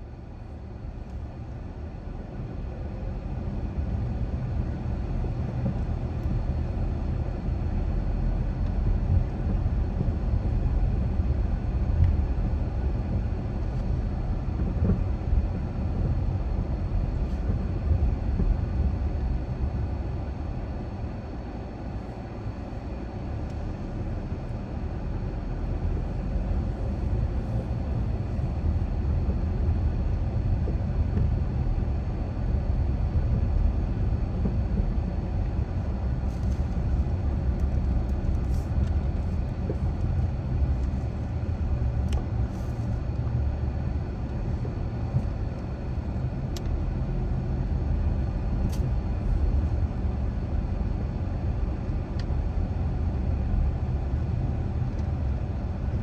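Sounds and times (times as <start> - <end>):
car driving slowly: 0.0 - 56.0.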